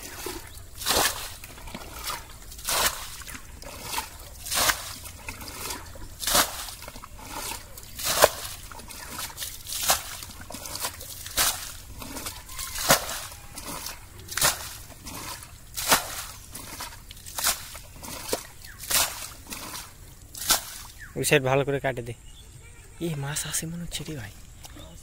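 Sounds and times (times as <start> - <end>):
water splashing from bucket: 0.0 - 21.2
water sloshing and trickling: 0.0 - 22.1, 23.0 - 25.0.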